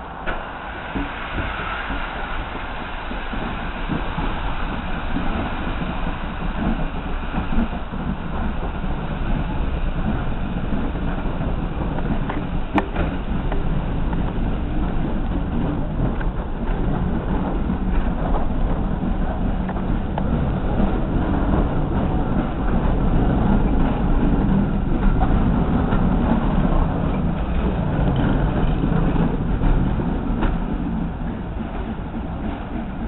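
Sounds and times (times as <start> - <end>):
hissing steam: 0.0 - 33.0
steam train rumbling on rails: 0.0 - 33.0.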